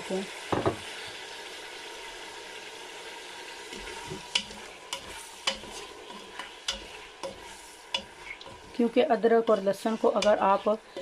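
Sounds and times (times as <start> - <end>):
meat and onions sizzling in oil: 0.0 - 11.0.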